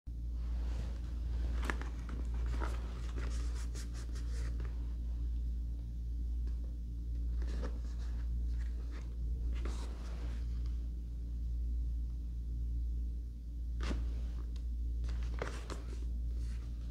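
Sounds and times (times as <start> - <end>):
steady low hum: 0.1 - 16.9.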